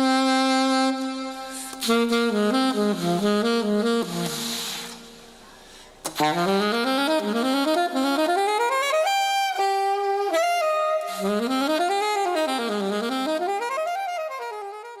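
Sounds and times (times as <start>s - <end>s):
saxophone playing quick runs: 0.0s - 5.2s, 6.2s - 15.0s.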